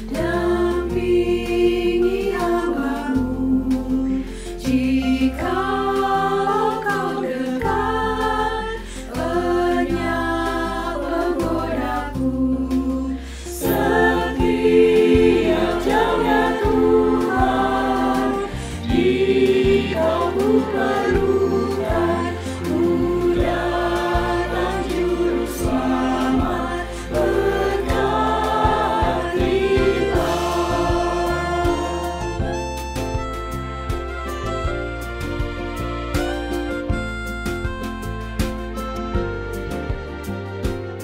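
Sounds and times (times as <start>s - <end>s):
choir singing a hymn: 0.0s - 33.3s.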